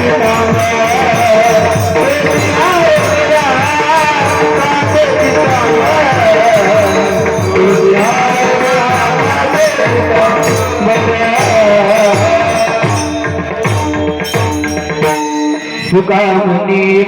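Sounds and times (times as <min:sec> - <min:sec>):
steady drum beat: 0:00.0 - 0:16.0
jingling hand percussion: 0:00.0 - 0:16.6
devotional song melody: 0:00.0 - 0:17.0.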